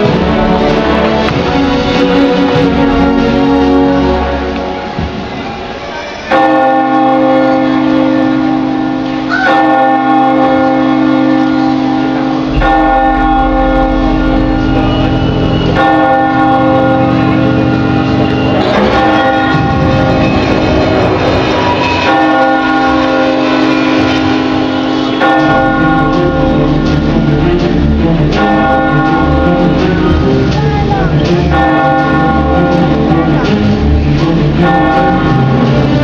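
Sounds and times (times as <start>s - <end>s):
orchestral music: 0.0s - 36.0s
large alarm bell tolling: 6.3s - 36.0s.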